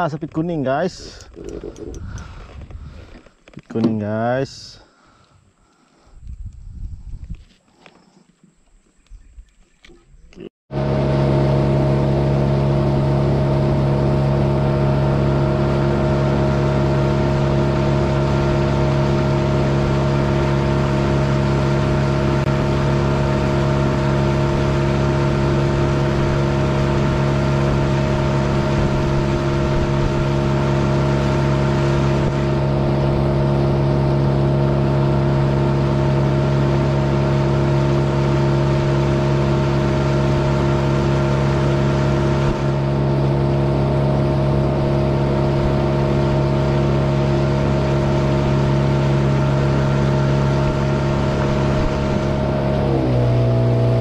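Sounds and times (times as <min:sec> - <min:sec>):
outboard motor droning: 0:00.0 - 0:06.2, 0:10.7 - 0:54.0
water noise: 0:09.5 - 0:54.0.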